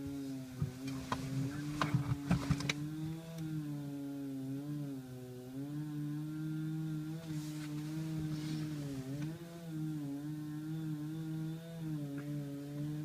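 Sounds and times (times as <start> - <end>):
chainsaw cutting into tree trunk: 0.0 - 13.0.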